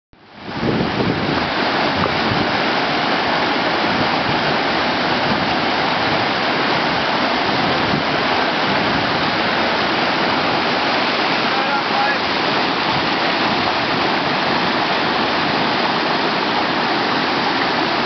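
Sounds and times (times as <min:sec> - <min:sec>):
whitewater rapids rushing: 0:00.2 - 0:18.0.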